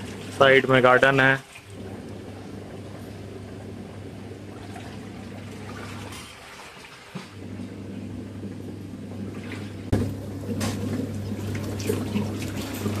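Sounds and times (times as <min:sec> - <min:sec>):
low electric hum: 0:00.0 - 0:06.1, 0:07.4 - 0:13.0
running water: 0:00.0 - 0:13.0.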